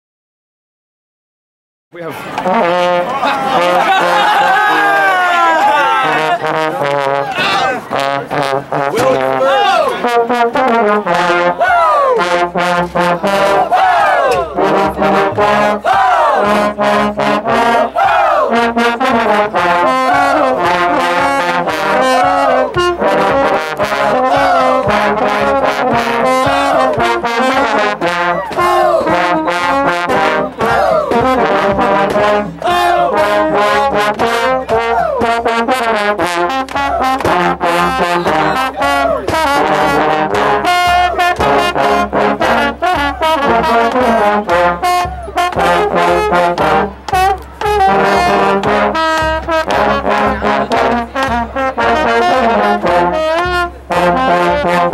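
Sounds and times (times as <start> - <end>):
trombones playing glissandi: 2.3 - 54.9.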